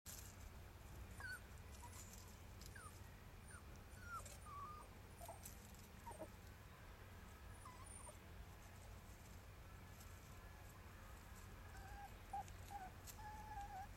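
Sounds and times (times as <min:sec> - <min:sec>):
low steady rumble: 0:00.1 - 0:13.9.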